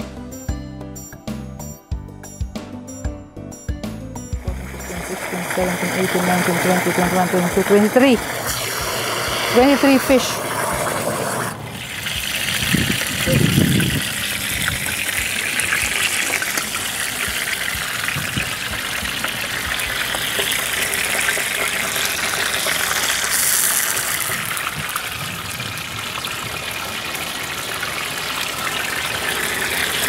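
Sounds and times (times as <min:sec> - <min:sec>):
fish sizzling in hot oil: 0:04.4 - 0:30.0.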